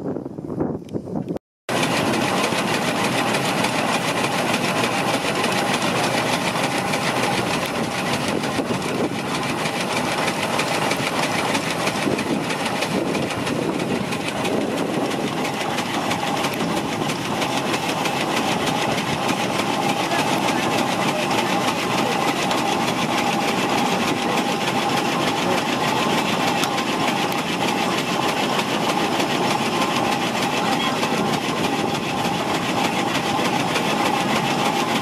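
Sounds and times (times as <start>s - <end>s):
steam engine machinery clatter: 1.7s - 35.0s.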